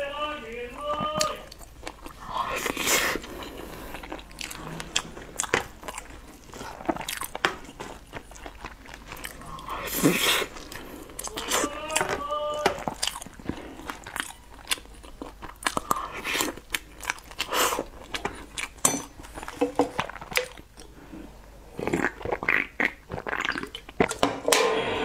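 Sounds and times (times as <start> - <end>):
wet chewing and smacking: 1.0 - 21.0, 21.8 - 24.2.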